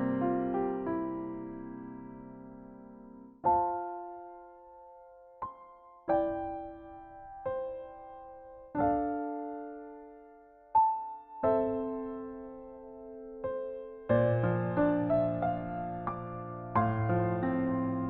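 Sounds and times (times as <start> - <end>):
slow gentle piano chords: 0.0 - 18.0.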